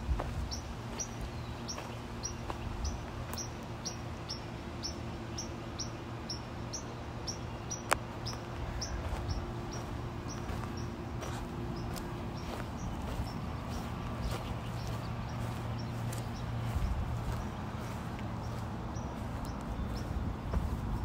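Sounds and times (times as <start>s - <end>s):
steady low hum: 0.0s - 21.0s
bird chirping: 0.5s - 21.0s.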